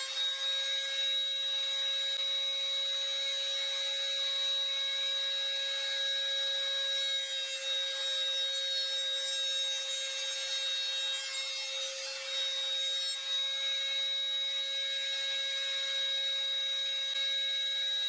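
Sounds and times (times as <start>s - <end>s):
router cutting wood: 0.0s - 18.0s
router motor whine: 0.0s - 18.0s.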